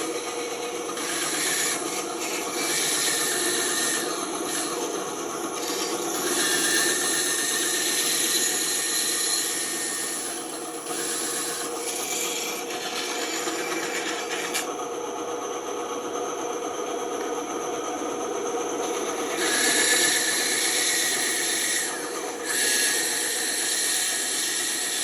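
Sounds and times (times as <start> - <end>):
band saw cutting wood: 0.0 - 14.8, 18.8 - 25.0.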